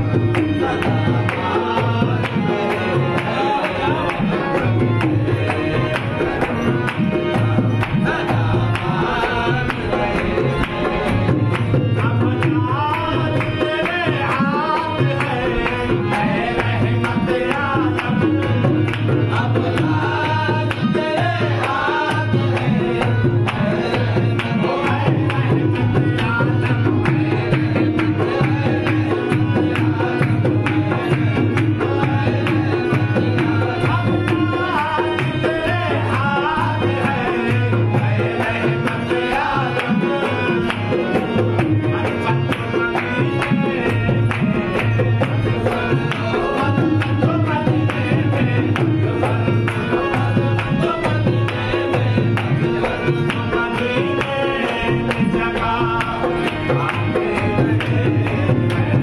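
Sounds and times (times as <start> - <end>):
tabla drumming: 0.0 - 59.0.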